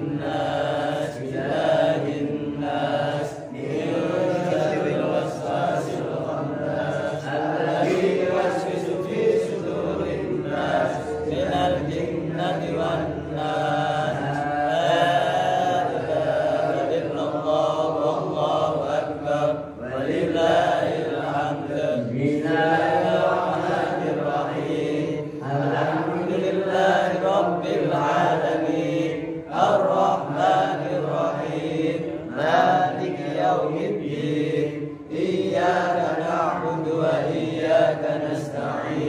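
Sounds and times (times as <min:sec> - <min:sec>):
man chanting into a microphone: 0:00.0 - 0:39.0.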